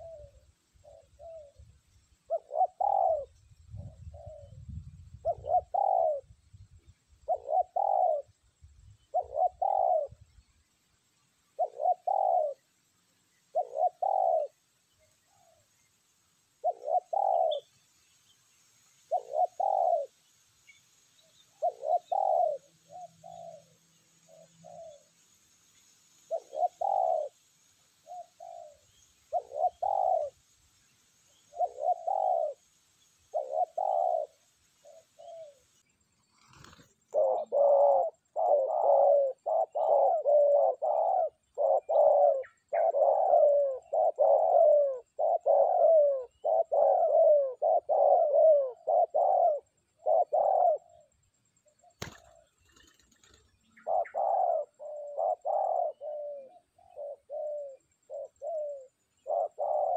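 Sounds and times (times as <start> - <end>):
dove cooing: 0.0 - 6.4, 7.2 - 8.4, 9.1 - 10.3, 11.5 - 12.7, 13.5 - 15.7, 16.6 - 17.8, 19.1 - 20.2, 21.4 - 25.1, 26.3 - 30.5, 31.3 - 32.7, 33.3 - 35.7, 36.4 - 51.2, 51.8 - 59.9.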